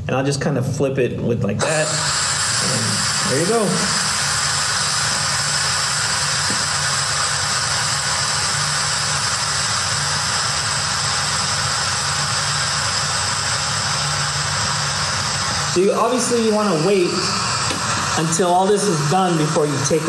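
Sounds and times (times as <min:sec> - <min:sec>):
pressure cooker venting steam: 0:01.6 - 0:20.0.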